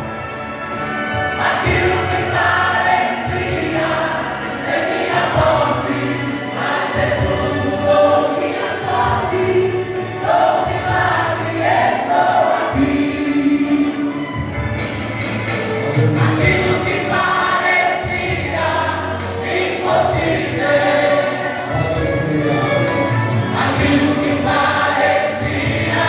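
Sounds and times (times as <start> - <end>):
instrumental backing with bass: 0.0 - 26.0
vocal group singing gospel: 0.8 - 26.0.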